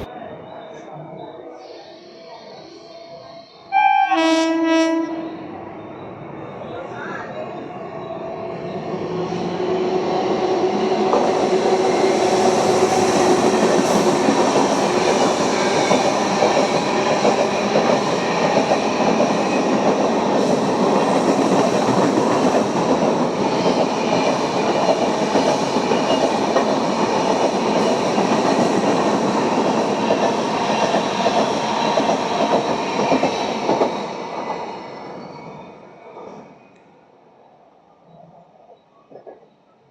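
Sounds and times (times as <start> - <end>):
train rushing past: 0.0 - 0.3, 3.8 - 36.6.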